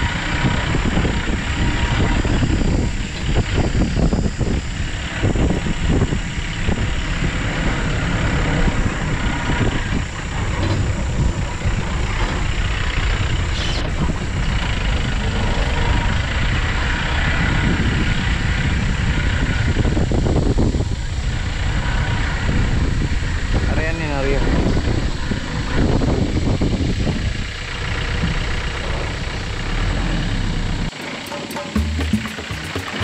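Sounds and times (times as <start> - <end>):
jeep engine running: 0.0 - 33.0
tyres rumbling on dirt: 0.0 - 33.0.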